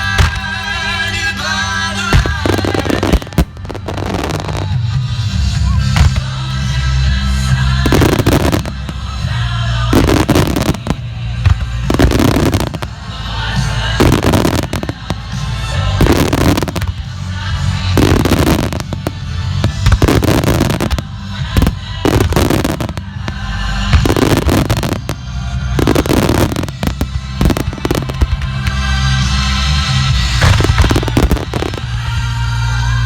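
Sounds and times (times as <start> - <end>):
fireworks bangs and crackles: 0.0 - 33.0
loud music: 0.0 - 33.0.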